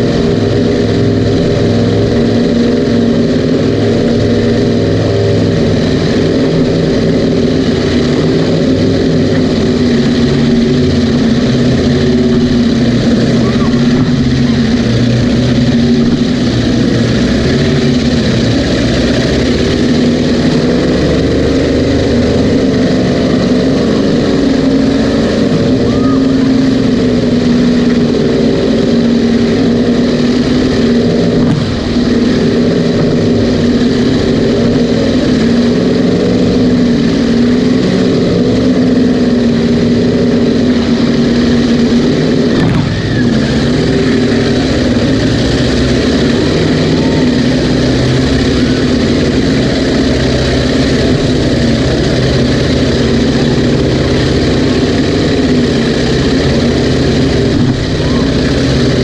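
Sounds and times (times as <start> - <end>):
powerboat engines running loud: 0.0 - 59.0.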